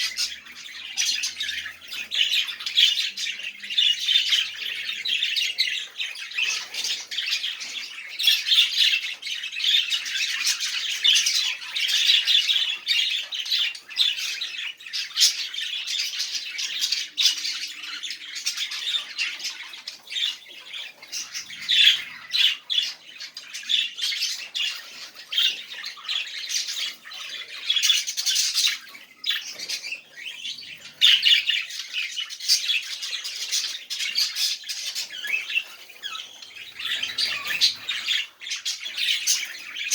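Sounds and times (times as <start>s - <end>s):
budgerigars warbling and chattering: 0.0s - 39.9s.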